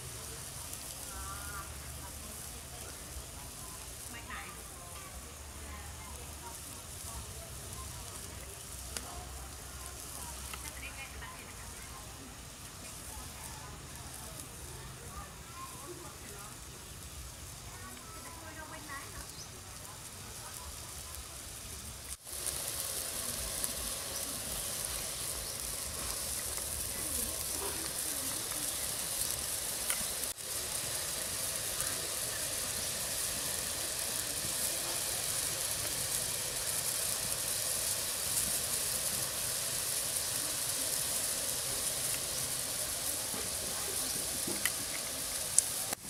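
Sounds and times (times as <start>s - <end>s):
sizzling hiss in a pot: 0.0s - 46.0s.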